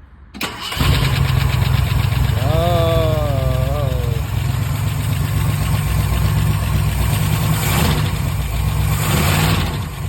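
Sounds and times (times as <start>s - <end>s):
car engine running: 0.8s - 10.0s.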